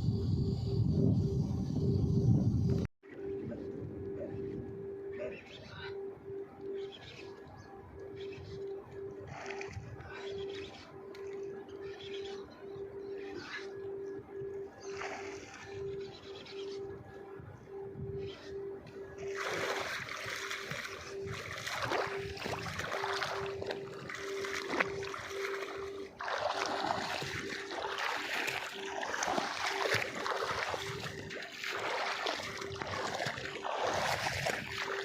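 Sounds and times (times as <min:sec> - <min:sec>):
water splashing and sloshing: 0:02.7 - 0:35.0.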